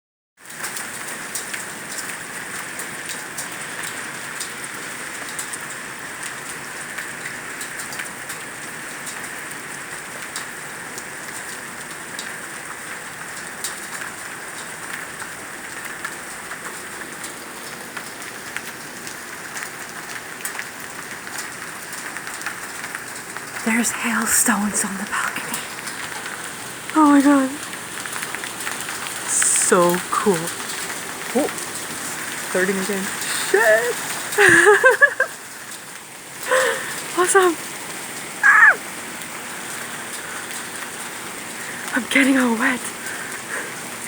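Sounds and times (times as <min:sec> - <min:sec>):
hailstones ticking on hard surfaces: 0:00.4 - 0:44.0
rain hissing: 0:00.4 - 0:44.0.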